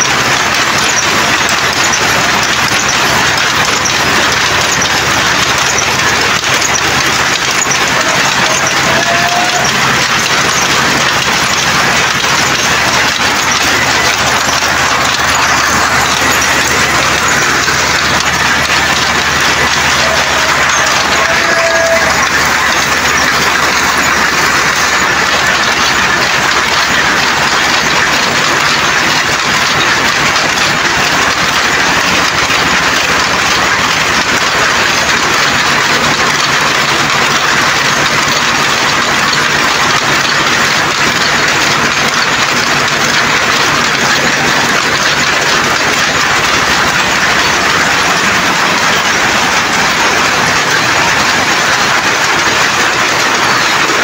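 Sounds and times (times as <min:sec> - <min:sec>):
power looms clattering: 0:00.0 - 0:54.0.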